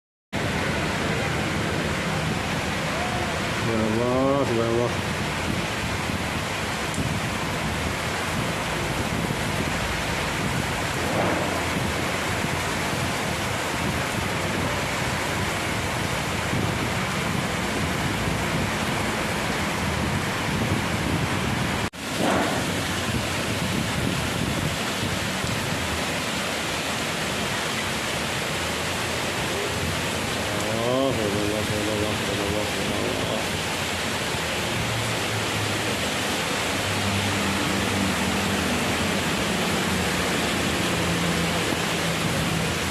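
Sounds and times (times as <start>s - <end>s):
heavy rain: 0.4s - 42.9s
strong wind: 0.4s - 42.9s.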